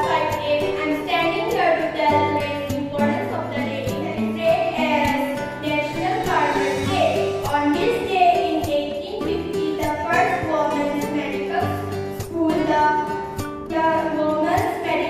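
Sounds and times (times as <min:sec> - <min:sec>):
instrumental backing with bass: 0:00.0 - 0:15.0.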